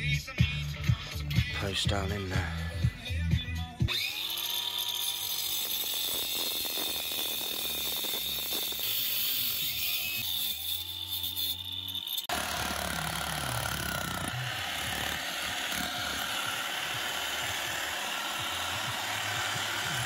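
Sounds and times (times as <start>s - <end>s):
angle grinder grinding concrete: 1.4s - 20.0s.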